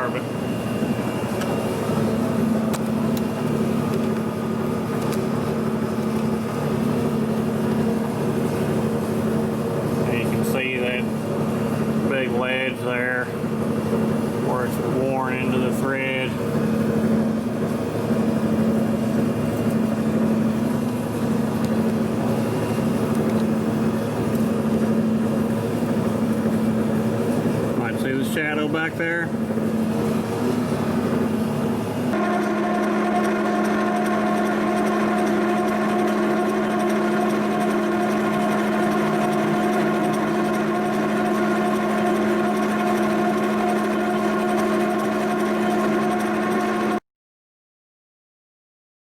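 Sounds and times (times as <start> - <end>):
boring machine humming: 0.0 - 47.0.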